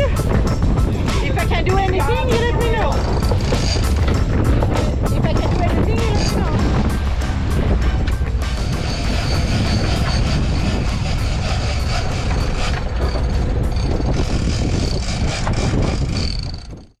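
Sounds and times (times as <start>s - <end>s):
water noise: 0.0s - 16.8s
boat engine running: 0.0s - 17.0s
rushing wind: 0.0s - 17.0s.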